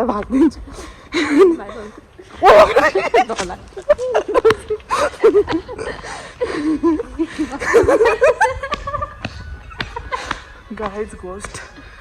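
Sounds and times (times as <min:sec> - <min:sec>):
people laughing and giggling: 0:00.3 - 0:12.0.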